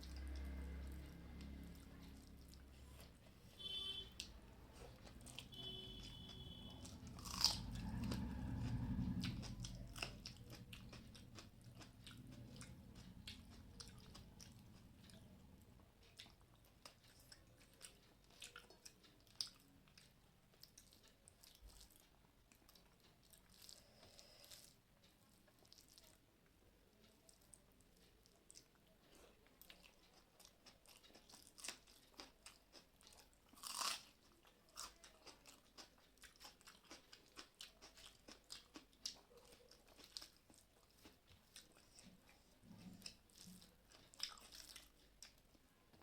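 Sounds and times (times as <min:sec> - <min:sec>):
chewing and crunching food: 0:00.0 - 0:46.0.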